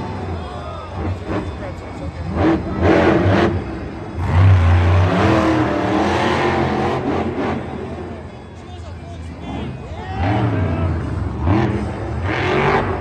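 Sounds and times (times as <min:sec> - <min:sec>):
monster truck engine revving: 0:00.0 - 0:08.5, 0:09.3 - 0:13.0.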